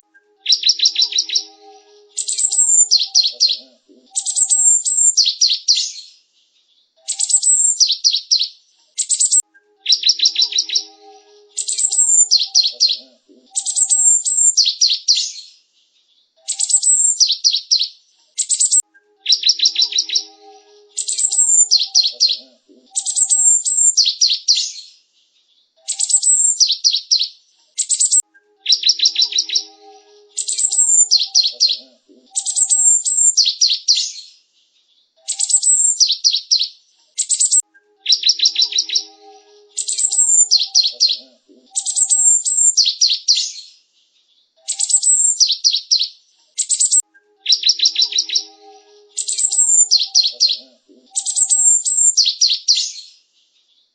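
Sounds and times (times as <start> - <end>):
bird singing high-pitched phrases: 0.0 - 6.2, 6.9 - 15.5, 16.3 - 24.9, 25.7 - 34.4, 35.1 - 43.8, 44.5 - 53.2.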